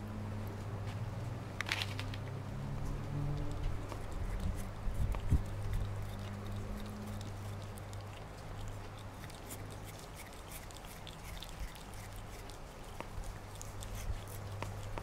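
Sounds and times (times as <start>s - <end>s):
cat chewing and licking: 2.2s - 15.0s
steady low hum: 2.2s - 15.0s.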